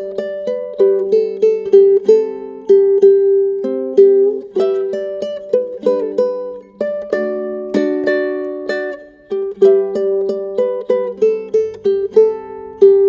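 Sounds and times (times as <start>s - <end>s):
ukulele fingerstyle melody: 0.0s - 13.0s.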